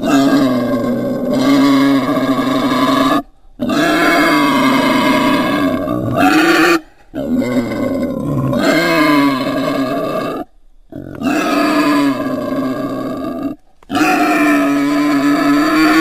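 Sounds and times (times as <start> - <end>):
low animal calls: 0.0 - 16.0.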